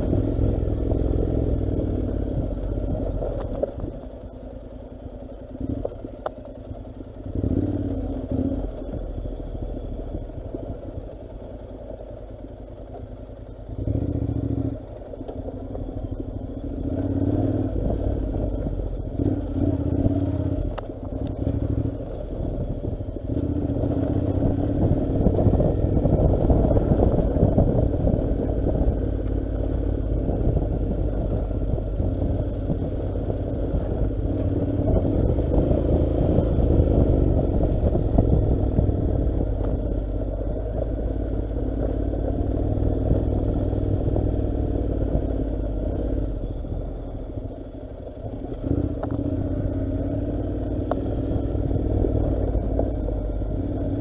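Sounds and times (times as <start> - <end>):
motorcycle engine running: 0.0 - 54.0
rattling and road noise: 0.0 - 54.0.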